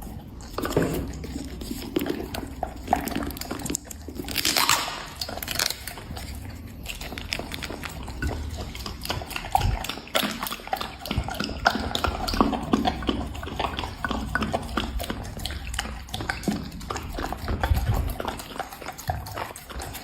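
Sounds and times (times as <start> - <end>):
dog chewing food: 0.0 - 20.0.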